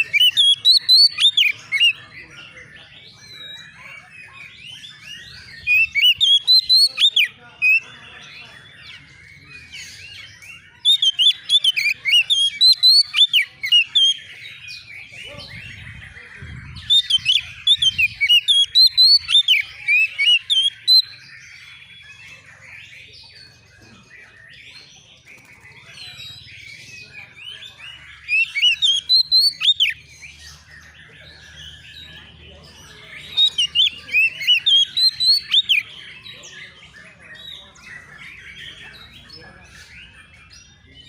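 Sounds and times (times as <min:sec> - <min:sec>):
bird whistling song: 0:00.0 - 0:02.0, 0:03.2 - 0:07.8, 0:09.6 - 0:23.6, 0:25.4 - 0:32.2, 0:32.8 - 0:39.0
bird chattering: 0:00.0 - 0:40.9.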